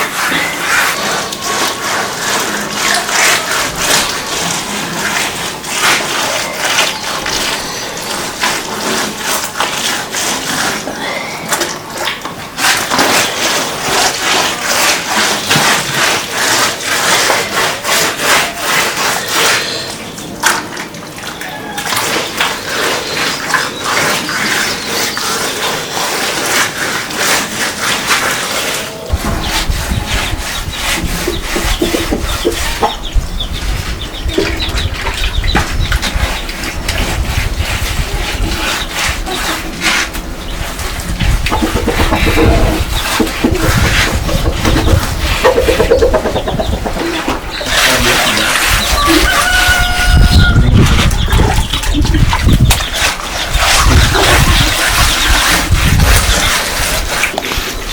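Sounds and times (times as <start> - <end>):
plaster scraping on wall: 0.0 - 20.6, 21.6 - 57.9.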